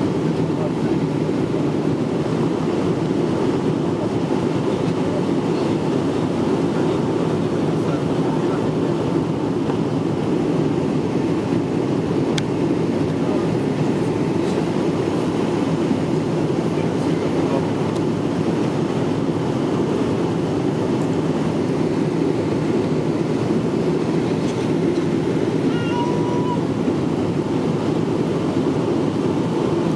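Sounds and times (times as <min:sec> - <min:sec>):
airliner cabin rumble: 0:00.0 - 0:29.9.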